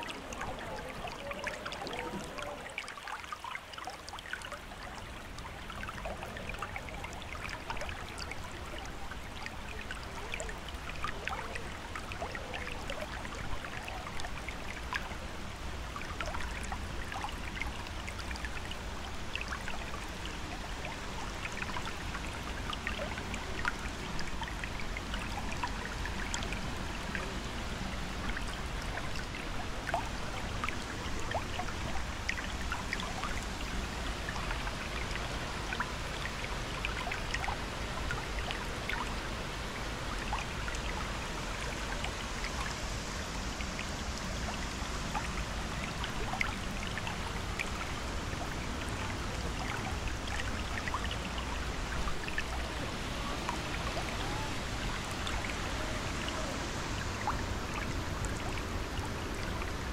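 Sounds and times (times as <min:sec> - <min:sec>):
flowing river water: 0:00.0 - 0:59.9
small splashes and drips: 0:00.0 - 0:59.9.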